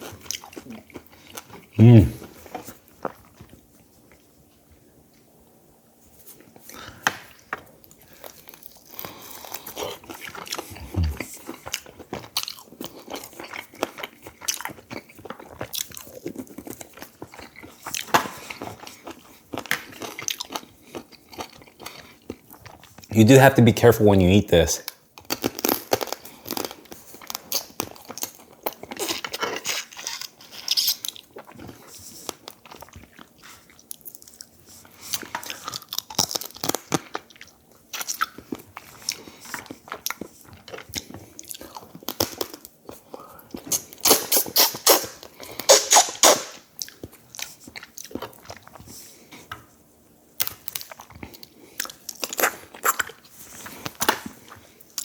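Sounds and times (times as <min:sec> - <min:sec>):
person chewing and crunching food: 0:00.0 - 0:05.4, 0:06.0 - 0:23.3, 0:24.8 - 0:55.0.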